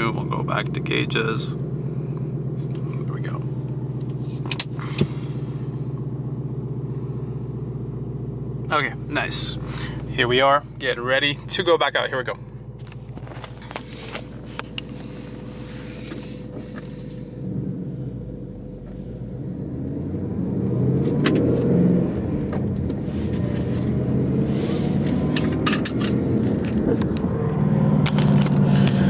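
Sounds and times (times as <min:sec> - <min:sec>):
car engine idling and pulling away: 0:00.0 - 0:29.0.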